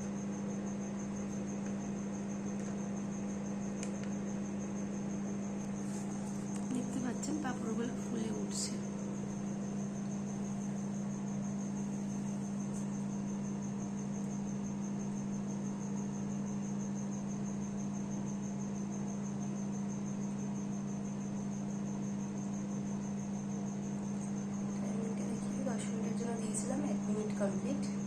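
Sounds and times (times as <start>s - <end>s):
microwave oven humming: 0.0s - 28.0s.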